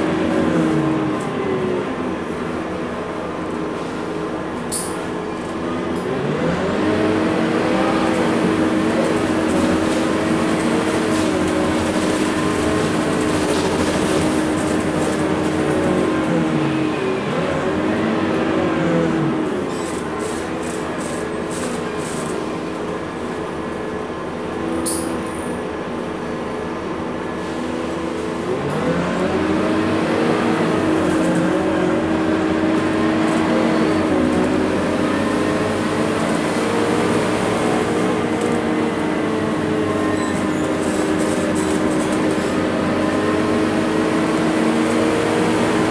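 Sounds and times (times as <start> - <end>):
tyre and road noise: 0.0 - 25.9, 26.9 - 45.9
bus diesel engine running: 0.0 - 45.9.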